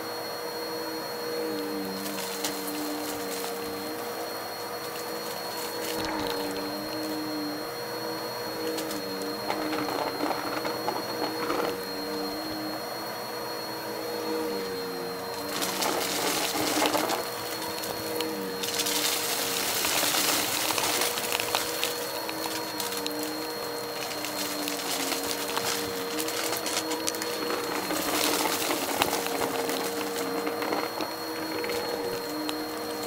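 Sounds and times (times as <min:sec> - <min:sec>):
vacuum cleaner motor whine: 0:00.0 - 0:33.0
vacuum suction rushing hiss: 0:00.0 - 0:33.0.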